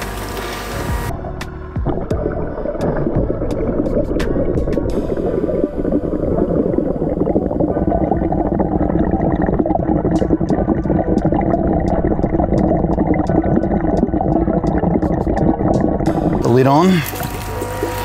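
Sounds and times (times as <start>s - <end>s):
muffled underwater gurgling: 0.0s - 18.0s.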